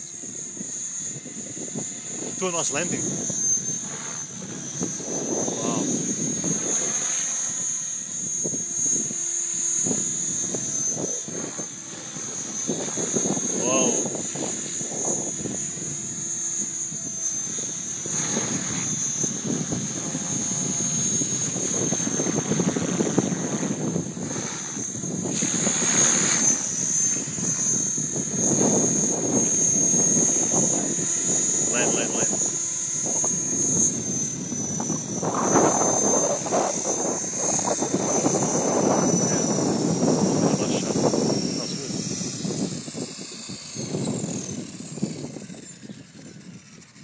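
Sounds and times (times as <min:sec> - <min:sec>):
electric motor high whine: 0:00.0 - 0:47.0
rotor blades whirring: 0:00.0 - 0:47.0.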